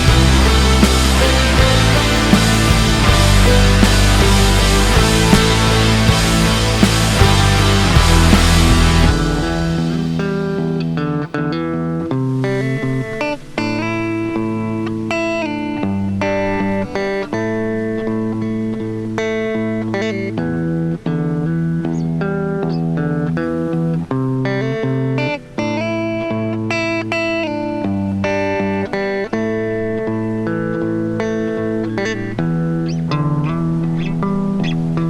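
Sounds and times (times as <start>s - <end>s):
instrumental guitar music: 0.0s - 35.0s.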